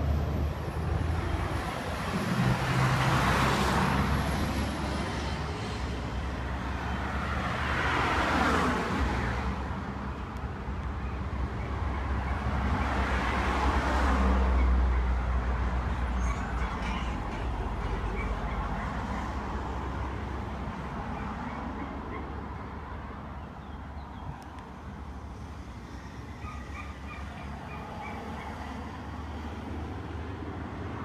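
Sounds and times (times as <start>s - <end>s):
bus driving by: 0.0s - 31.0s
cars passing: 0.0s - 31.0s.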